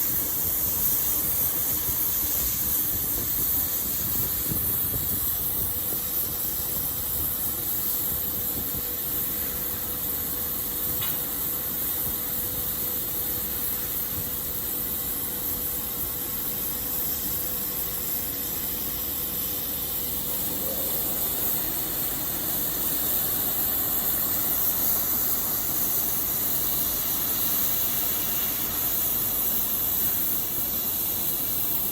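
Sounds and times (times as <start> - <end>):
hiss of assist gas: 0.0 - 31.9.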